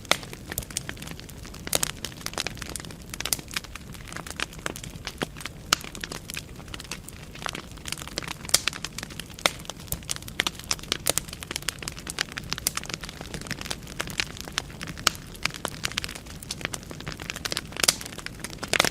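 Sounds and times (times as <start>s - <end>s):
burning logs crackling: 0.0s - 18.9s
flames rumbling: 0.0s - 18.9s.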